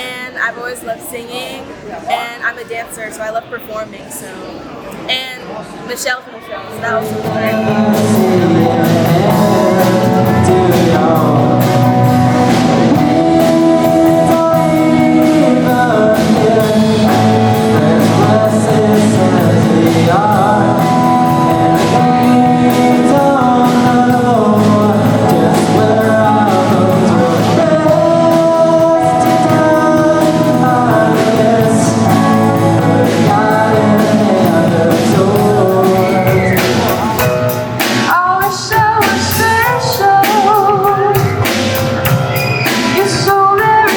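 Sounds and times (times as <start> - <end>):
person singing: 6.8 - 43.9
rock band with guitar and drums: 7.0 - 43.9.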